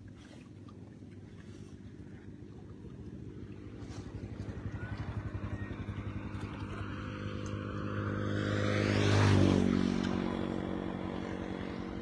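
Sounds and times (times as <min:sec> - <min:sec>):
small boat engine pulsing: 0:00.0 - 0:12.0.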